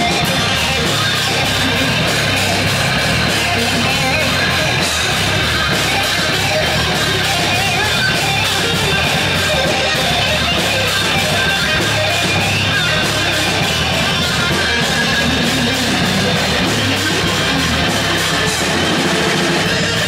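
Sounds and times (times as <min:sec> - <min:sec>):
bass guitar: 0:00.0 - 0:20.0
drum kit: 0:00.0 - 0:20.0
electric guitar: 0:00.0 - 0:20.0.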